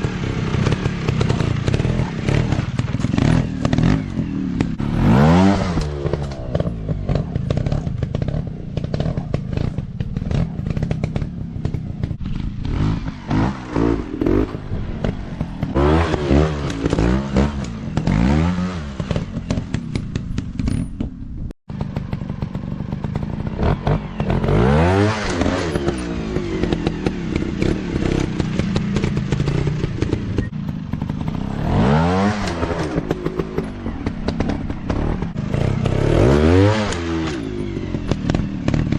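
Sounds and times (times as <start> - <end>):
dirt bike engines revving: 0.0 - 20.7, 21.8 - 38.9
bikes clattering over rough ground: 0.0 - 38.9.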